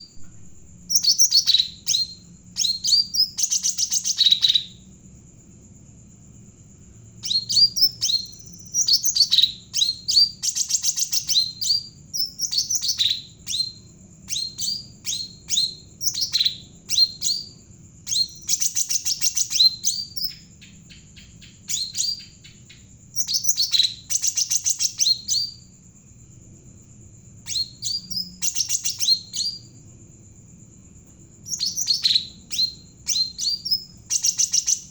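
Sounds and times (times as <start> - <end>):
faint high whine: 0.0 - 34.9
songbird chirping rapidly: 0.8 - 4.9, 7.2 - 25.8, 27.4 - 29.8, 31.4 - 34.9.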